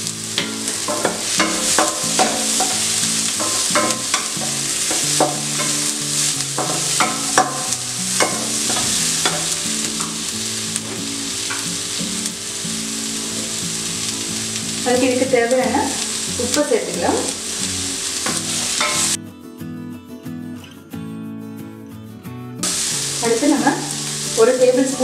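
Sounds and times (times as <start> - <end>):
vegetables sizzling in oil: 0.0 - 19.2, 22.6 - 25.0.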